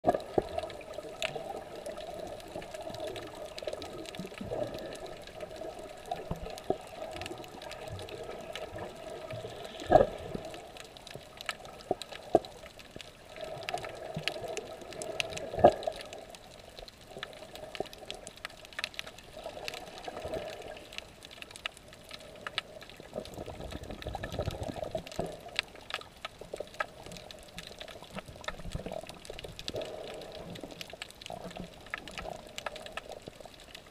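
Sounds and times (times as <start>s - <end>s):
muffled underwater water swishing: 0.0s - 33.9s
underwater clicks: 0.0s - 33.9s.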